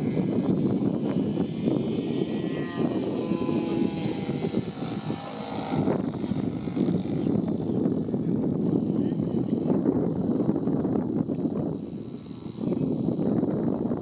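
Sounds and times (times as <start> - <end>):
model plane engine flying past: 0.0 - 14.0.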